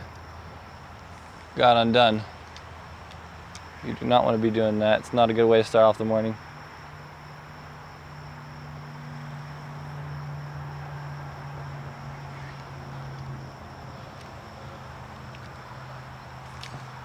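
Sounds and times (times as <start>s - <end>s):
insects droning: 0.0s - 17.0s
low steady hum: 0.0s - 17.0s.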